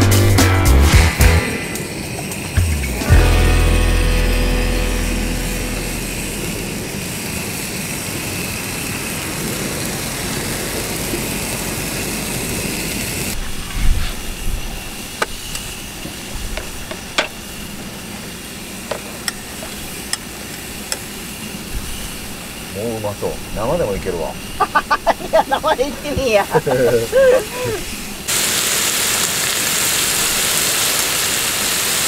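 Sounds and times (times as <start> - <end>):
pork sizzling in a frying pan: 0.8 - 24.8, 27.2 - 32.0.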